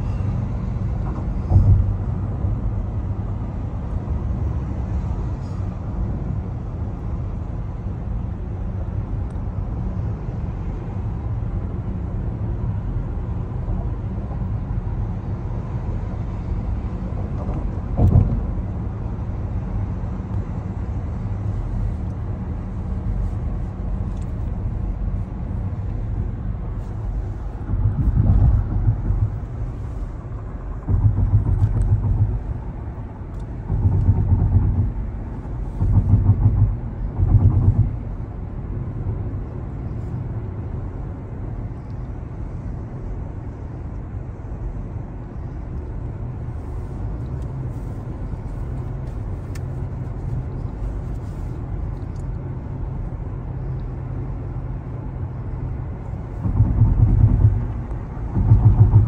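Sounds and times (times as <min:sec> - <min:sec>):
car road noise rumble: 0:00.0 - 0:59.0.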